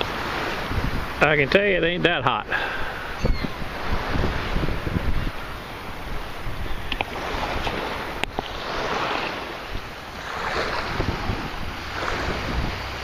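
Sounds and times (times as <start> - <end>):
wind buffeting microphone: 0.0 - 13.0
water sloshing: 2.1 - 13.0.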